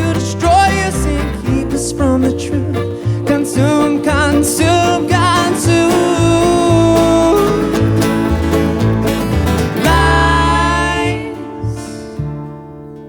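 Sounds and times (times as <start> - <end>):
country music guitar and bass: 0.0 - 13.0.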